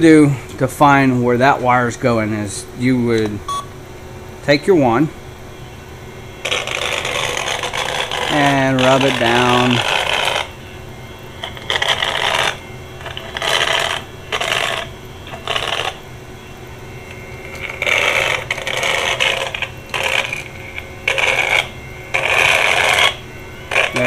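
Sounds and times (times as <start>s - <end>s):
scratchy static bursts from probe: 4.4s - 24.0s.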